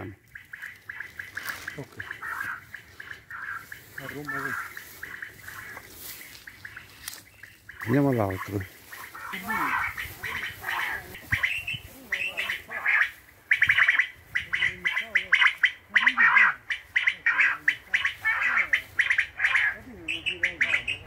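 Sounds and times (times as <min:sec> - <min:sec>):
recorded bird chirping from loudspeaker: 0:00.3 - 0:12.7, 0:13.5 - 0:21.0.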